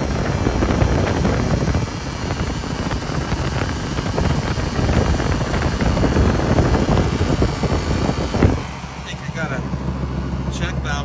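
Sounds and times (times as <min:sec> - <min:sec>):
wind buffeting microphone: 0:00.0 - 0:10.2
truck engine and road noise: 0:00.0 - 0:11.0.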